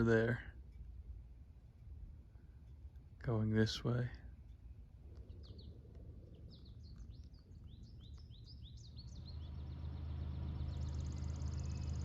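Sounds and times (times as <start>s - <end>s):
low steady rumble: 0.0s - 12.0s
songbirds chirping: 0.0s - 12.0s.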